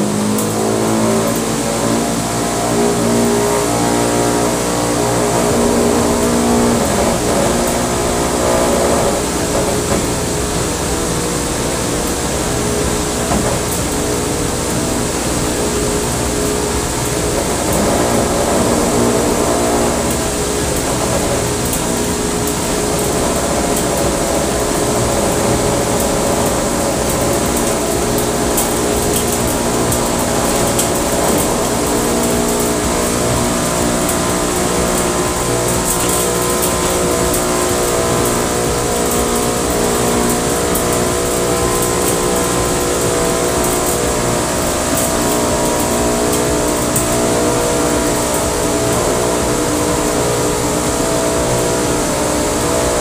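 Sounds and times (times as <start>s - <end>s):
cotton candy machine motor humming: 0.0s - 53.0s
gas burner hissing: 0.0s - 53.0s.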